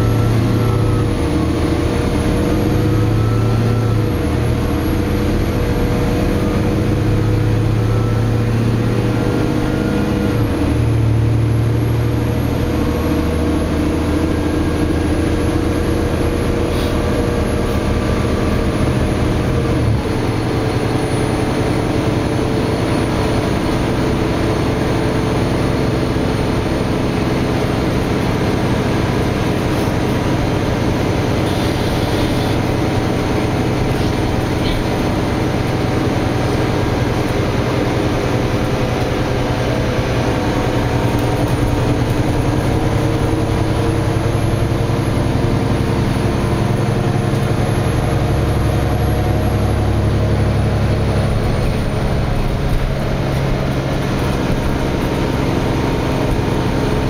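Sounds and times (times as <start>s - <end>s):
bus diesel engine running: 0.0s - 57.0s
road and tyre noise: 0.0s - 57.0s.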